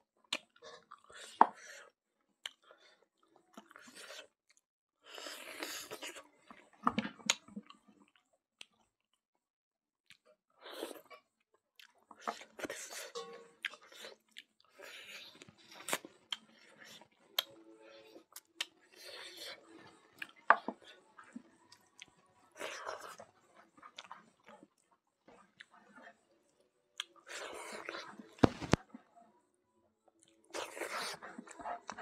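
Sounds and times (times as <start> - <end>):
person chewing food: 0.2 - 9.2, 10.0 - 29.0, 30.2 - 32.0.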